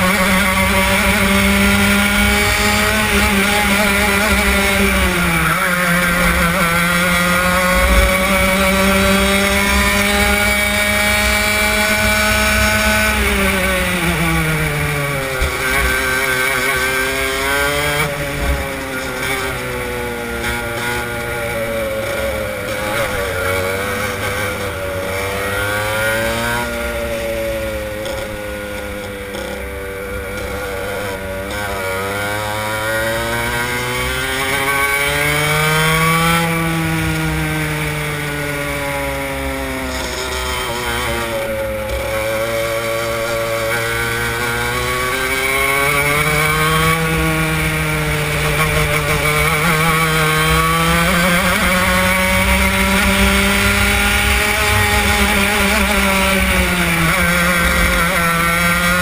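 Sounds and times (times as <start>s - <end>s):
kart engine accelerating and slowing: 0.0s - 59.0s.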